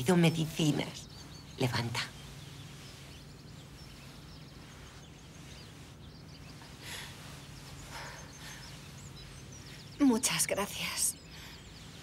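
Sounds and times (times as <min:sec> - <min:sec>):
faint birds chirping: 0:00.0 - 0:12.0
low steady hum: 0:00.0 - 0:12.0.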